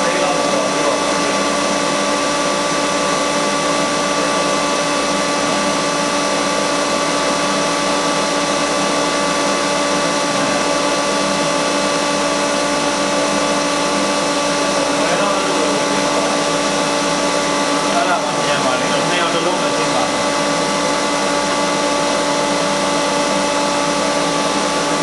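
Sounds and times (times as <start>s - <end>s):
pump motor humming: 0.0s - 25.0s.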